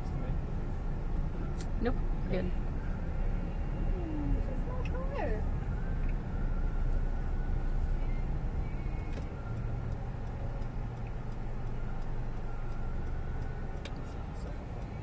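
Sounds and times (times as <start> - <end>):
car engine and road rumble: 0.0 - 15.0
low steady hum: 0.0 - 15.0.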